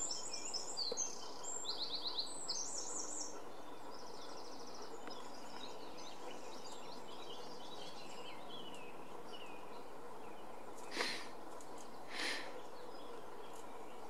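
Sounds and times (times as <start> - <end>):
small songbirds chirping: 0.0 - 14.0
steady outdoor hiss: 0.0 - 14.0.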